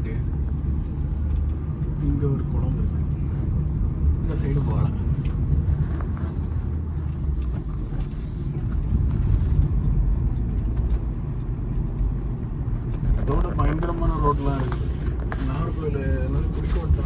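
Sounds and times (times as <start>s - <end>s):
car driving on rough road: 0.0s - 17.0s.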